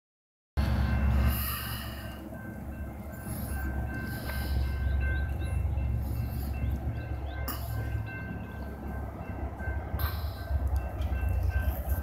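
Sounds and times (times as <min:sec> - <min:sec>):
freight locomotive rumbling: 0:00.6 - 0:12.0.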